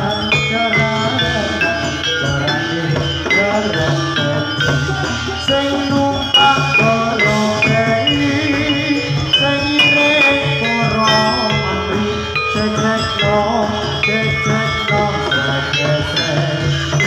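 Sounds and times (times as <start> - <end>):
metal mallet instruments ringing: 0.0 - 17.0.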